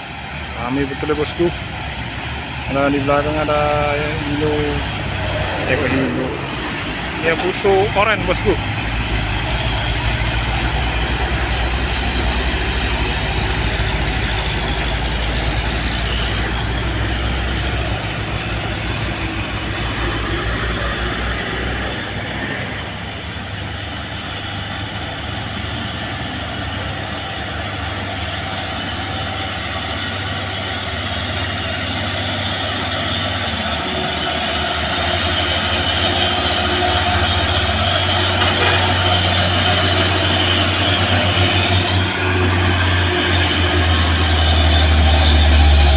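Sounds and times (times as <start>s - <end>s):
diesel trucks labouring uphill: 0.0s - 45.9s.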